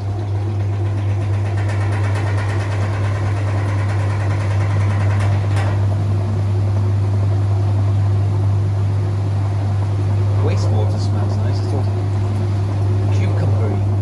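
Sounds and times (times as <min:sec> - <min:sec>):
washing machine pump humming: 0:00.0 - 0:14.0.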